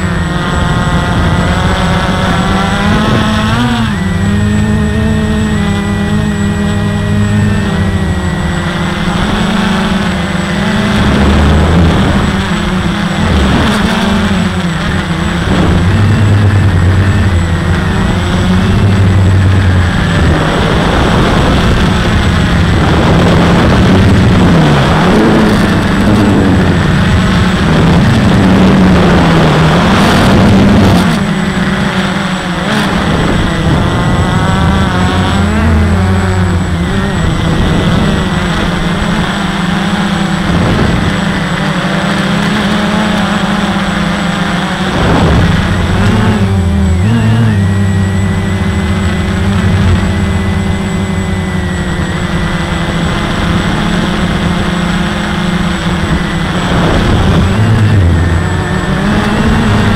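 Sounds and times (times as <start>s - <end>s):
heavy rushing noise: 0.0s - 59.9s
quadcopter propellers buzzing: 0.0s - 59.9s.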